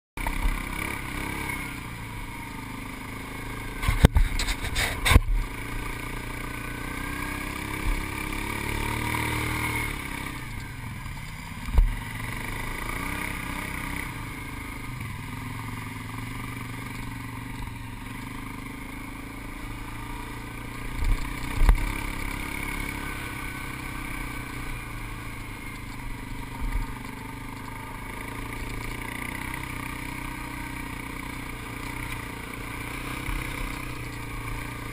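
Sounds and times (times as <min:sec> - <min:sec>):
quad bike engine running: 0:00.2 - 0:34.9.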